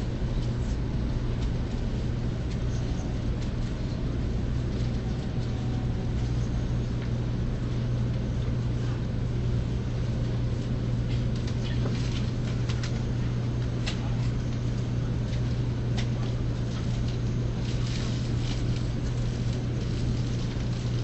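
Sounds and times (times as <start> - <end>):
train carriage hum: 0.0 - 21.0.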